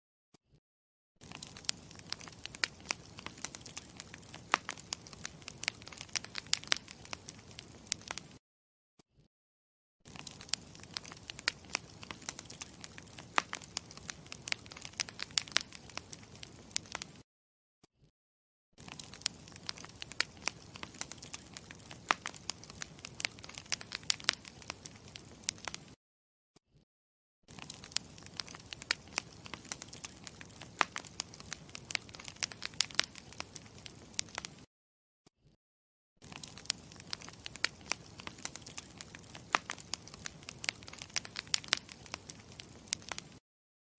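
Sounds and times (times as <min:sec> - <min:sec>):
campfire crackling: 0:01.2 - 0:08.4, 0:10.1 - 0:17.2, 0:18.8 - 0:26.0, 0:27.5 - 0:34.6, 0:36.2 - 0:43.4.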